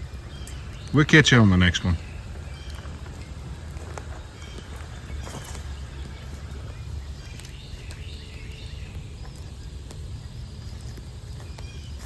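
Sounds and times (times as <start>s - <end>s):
birds calling faintly: 0.0s - 12.0s
steady low rumble: 0.0s - 12.0s
wood fire crackling: 0.0s - 12.0s.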